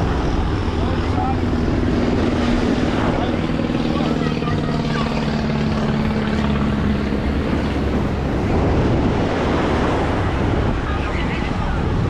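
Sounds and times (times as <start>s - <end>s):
engine hum: 0.0s - 12.0s
ocean surf: 0.0s - 12.0s
wind buffeting microphone: 0.0s - 12.0s.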